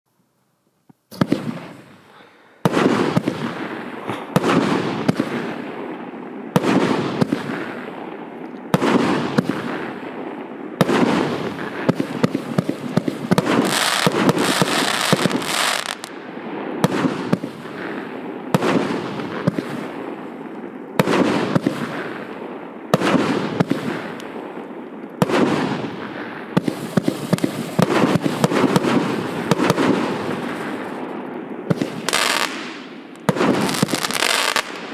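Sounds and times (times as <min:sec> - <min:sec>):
firework bangs: 0:01.1 - 0:08.1, 0:08.7 - 0:34.9
firework crackling: 0:01.1 - 0:34.9.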